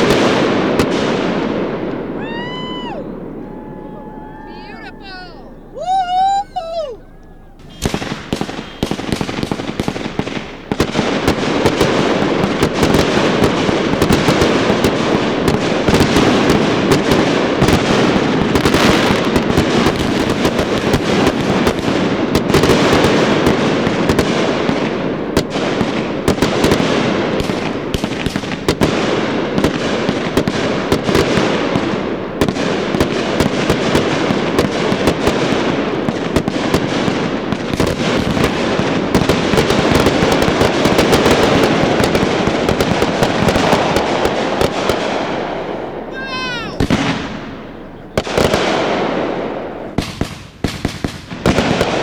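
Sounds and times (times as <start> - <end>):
fireworks bangs and crackles: 0.0 - 7.0, 7.6 - 52.0.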